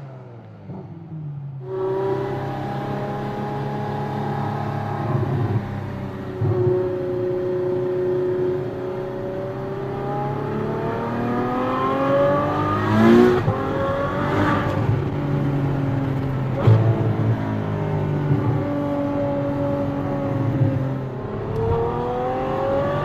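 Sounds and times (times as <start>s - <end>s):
sports car engine revving: 0.0s - 23.0s.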